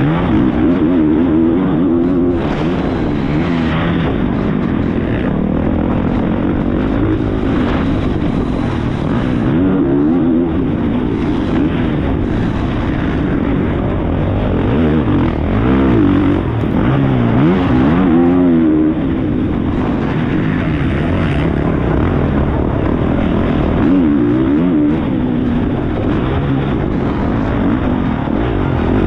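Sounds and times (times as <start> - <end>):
motocross bike engine racing: 0.0 - 29.0
wind noise: 0.0 - 29.0.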